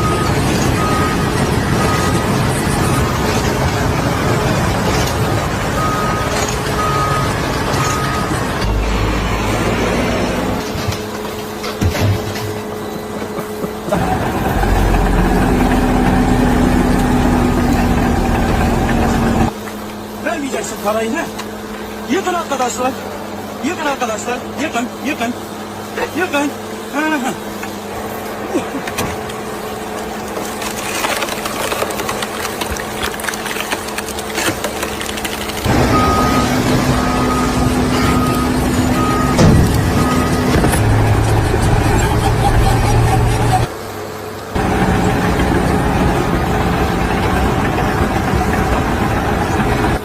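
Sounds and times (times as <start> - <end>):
engine droning with deep rumble: 0.0 - 50.0.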